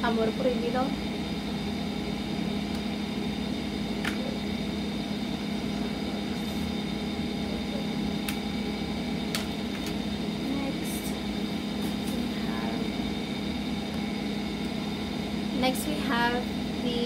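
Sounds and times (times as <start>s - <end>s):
appliance motor humming: 0.0s - 17.0s.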